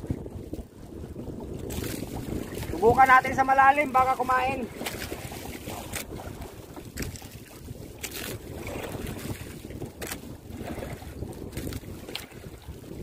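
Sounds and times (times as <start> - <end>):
water lapping against wooden hull: 0.0 - 13.0
wind buffeting microphone: 0.0 - 13.0.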